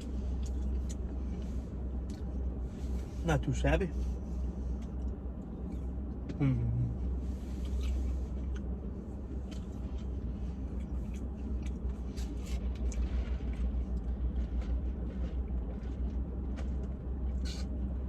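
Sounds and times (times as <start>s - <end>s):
car cabin low rumble: 0.0s - 18.0s.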